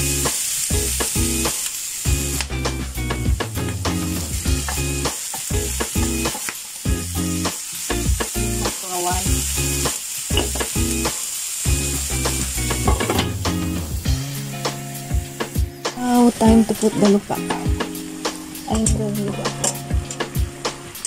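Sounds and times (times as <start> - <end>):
vegetables sizzling in pan: 0.0 - 21.0.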